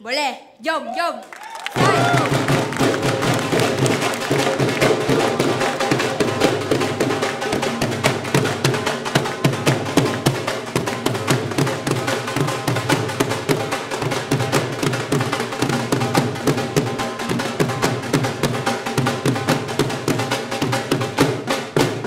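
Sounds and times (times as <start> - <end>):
barrel drums beating: 1.8 - 22.0
drum kit: 1.8 - 22.0.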